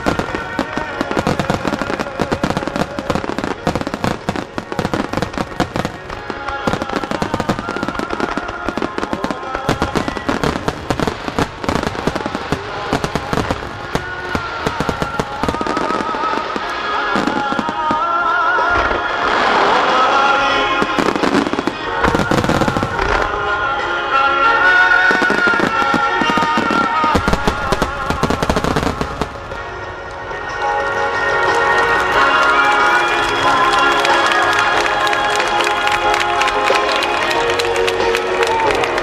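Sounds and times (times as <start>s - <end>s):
fireworks banging and crackling: 0.0s - 39.0s
song with sung melody: 0.0s - 39.0s.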